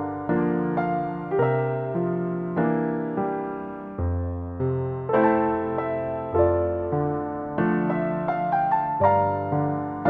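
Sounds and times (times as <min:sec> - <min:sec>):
slow soft piano melody: 0:00.0 - 0:10.0.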